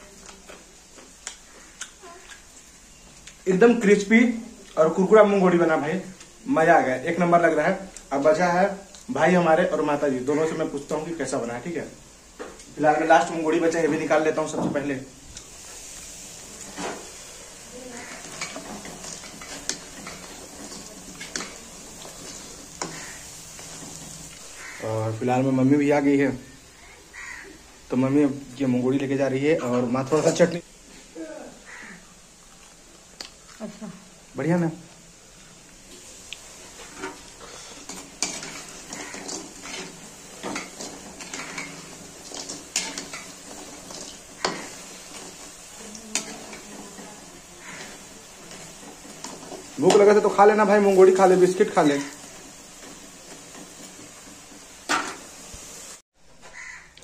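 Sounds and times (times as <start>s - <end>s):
fritters sizzling in hot oil: 0.0s - 57.0s.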